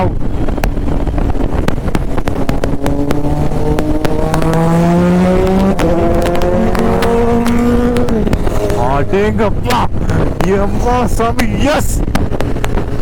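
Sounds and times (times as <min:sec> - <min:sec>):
motorcycle engine accelerating: 0:00.0 - 0:11.4, 0:12.0 - 0:13.0
wind rushing over microphone: 0:00.0 - 0:13.0.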